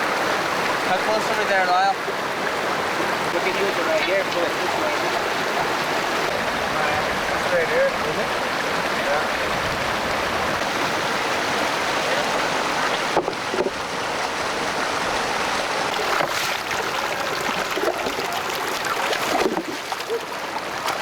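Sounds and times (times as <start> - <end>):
creek water rushing: 0.0 - 21.0
sharp sounds in stream: 0.0 - 21.0.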